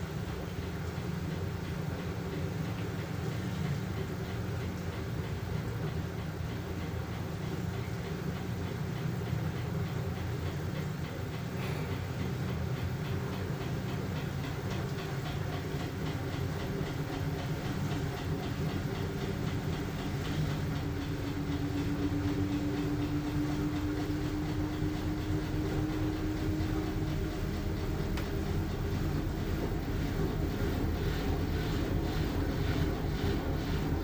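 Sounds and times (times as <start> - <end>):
washing machine churning: 0.0 - 34.0.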